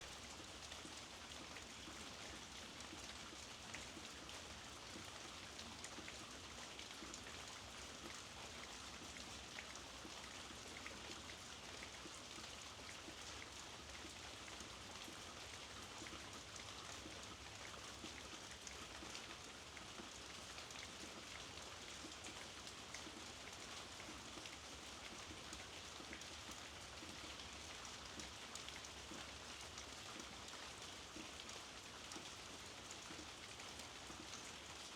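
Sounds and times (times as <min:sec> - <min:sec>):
steady rain ticking on surface: 0:00.0 - 0:34.9.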